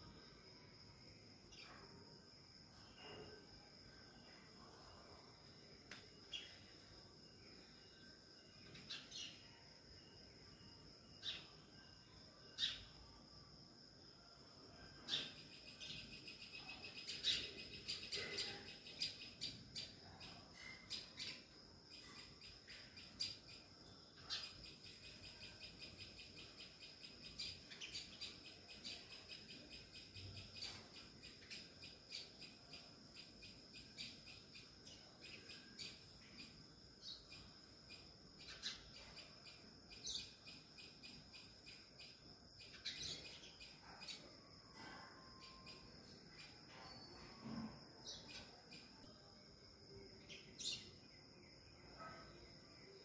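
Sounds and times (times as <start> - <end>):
high-pitched insect drone: 2.7 - 52.2.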